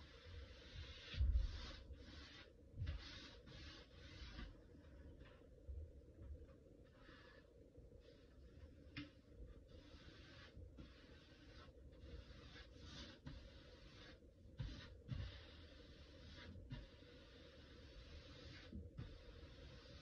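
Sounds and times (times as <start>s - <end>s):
paintbrush swishing on wall: 0.0s - 5.6s, 6.2s - 20.0s.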